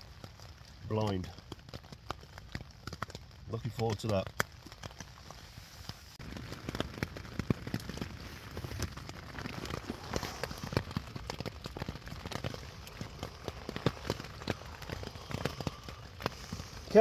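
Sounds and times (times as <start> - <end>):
rain on a tent: 0.0 - 17.0
raindrops tapping: 0.0 - 17.0.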